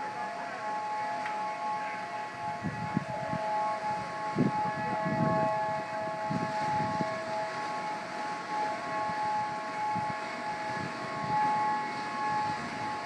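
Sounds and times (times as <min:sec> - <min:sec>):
warning sirens wailing: 0:00.0 - 0:13.0.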